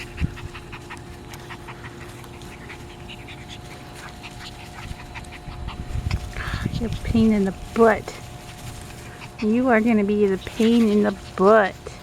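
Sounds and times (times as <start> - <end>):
puppies panting: 0.0 - 12.0
puppies scuffling: 0.0 - 12.0.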